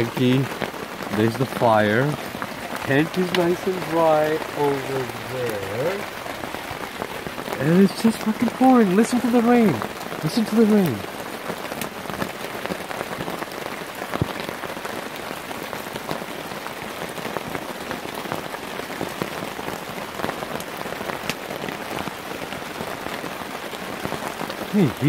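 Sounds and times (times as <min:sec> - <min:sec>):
heavy rain pouring: 0:00.0 - 0:25.0
raindrops pattering close by: 0:00.0 - 0:25.0.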